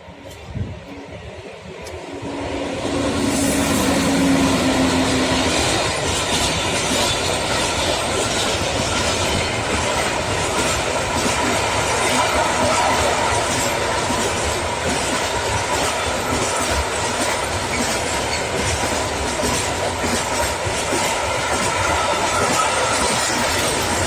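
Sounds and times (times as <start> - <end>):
train wheels clattering on rails: 1.7 - 24.0.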